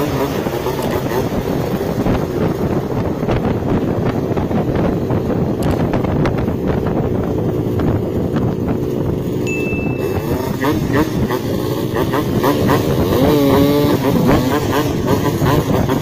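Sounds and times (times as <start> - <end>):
motorcycle engines droning: 0.0 - 16.0
wind buffeting microphone: 0.0 - 16.0.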